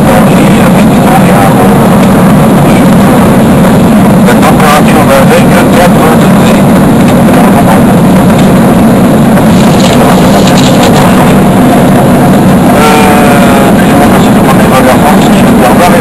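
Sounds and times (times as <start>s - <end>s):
jet cabin roar: 0.0s - 16.0s.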